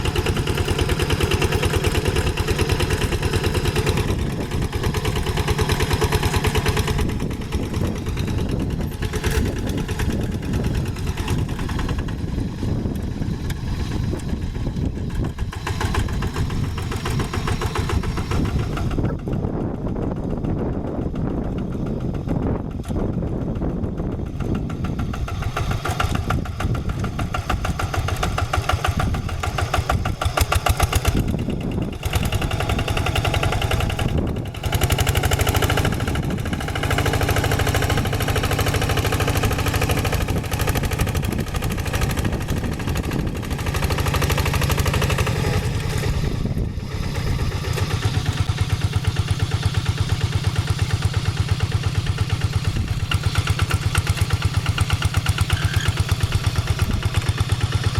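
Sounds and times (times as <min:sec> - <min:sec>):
diesel hand tractor running: 0:00.0 - 0:57.9.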